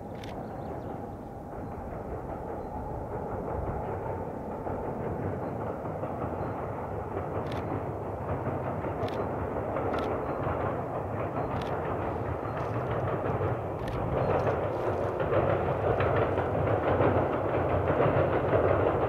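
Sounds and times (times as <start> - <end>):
sharp train clacks: 0.0 - 19.0
train rumbling over bridge: 0.0 - 19.0.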